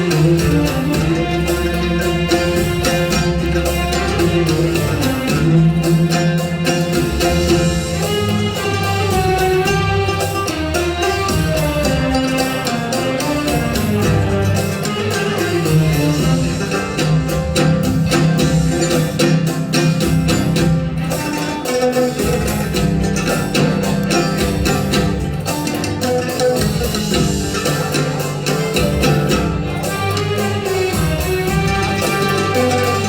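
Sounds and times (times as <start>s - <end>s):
plucked string instrument: 0.0s - 33.0s.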